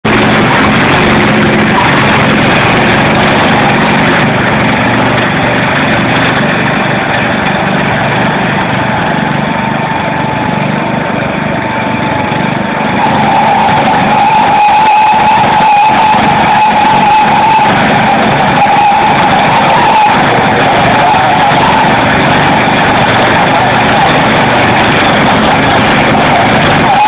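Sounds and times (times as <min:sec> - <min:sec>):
thin steady whine: 0:00.0 - 0:27.0
tractor engines running hard: 0:00.0 - 0:27.0.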